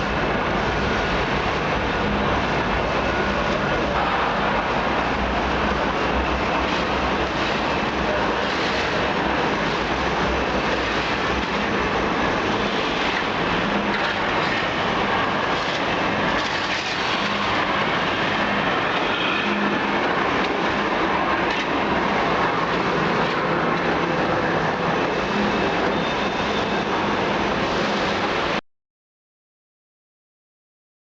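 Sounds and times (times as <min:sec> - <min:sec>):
industrial machinery rattling: 0:00.0 - 0:28.6.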